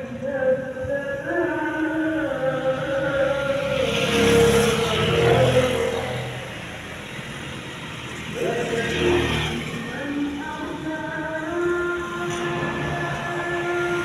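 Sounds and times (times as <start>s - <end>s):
chanted vocal music: 0.0s - 7.3s, 8.2s - 14.0s.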